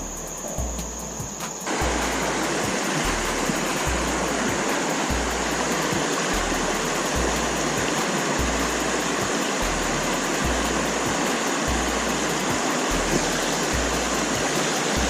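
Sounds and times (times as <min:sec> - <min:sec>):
deep bass music beat: 0:00.0 - 0:15.0
rushing creek water: 0:00.0 - 0:15.0.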